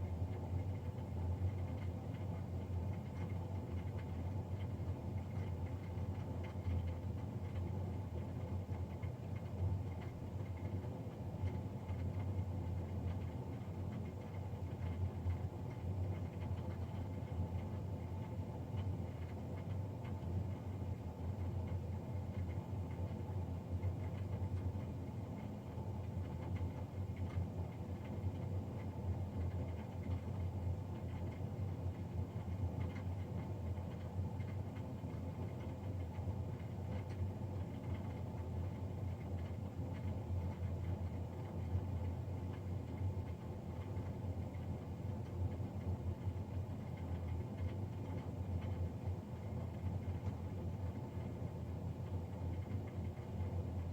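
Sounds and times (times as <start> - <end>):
boiler blower fan humming: 0.0 - 53.9.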